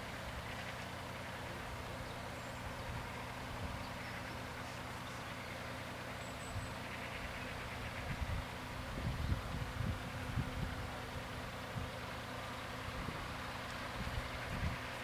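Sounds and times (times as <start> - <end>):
low even hum: 0.0 - 15.0.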